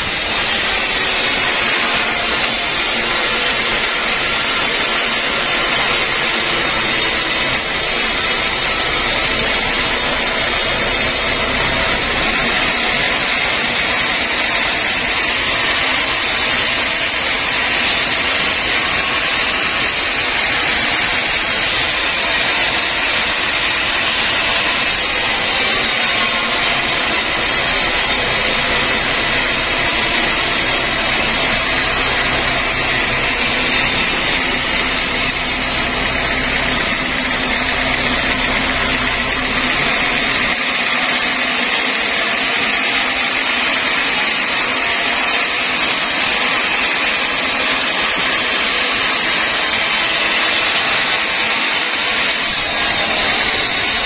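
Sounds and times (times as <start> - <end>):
band saw machine whirring: 0.0 - 54.0.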